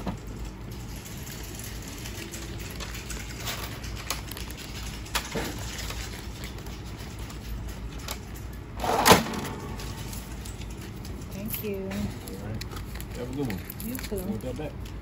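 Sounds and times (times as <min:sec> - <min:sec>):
store background hum: 0:00.0 - 0:15.0.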